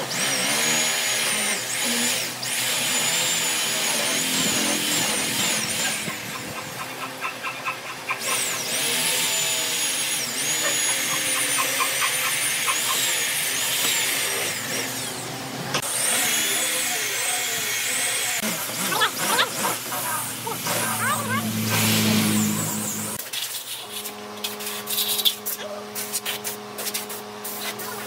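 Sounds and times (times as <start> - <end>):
electric drill boring into wood: 0.0 - 23.2.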